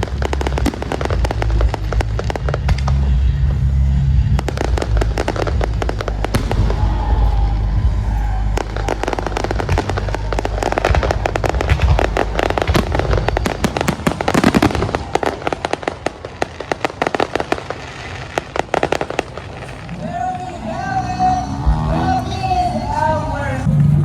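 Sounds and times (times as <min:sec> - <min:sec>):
low booming rumble: 0:00.0 - 0:20.6
fireworks crackling pops: 0:00.0 - 0:21.9.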